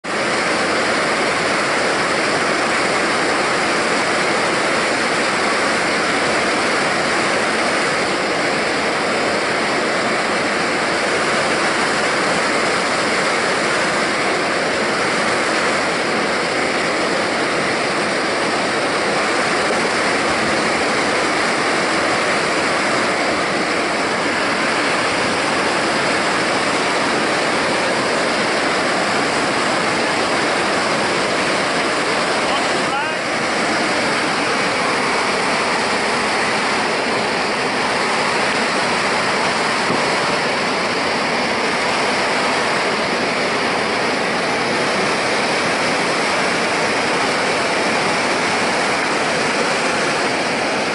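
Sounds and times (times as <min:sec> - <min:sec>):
water rushing over weir: 0:00.0 - 0:50.9.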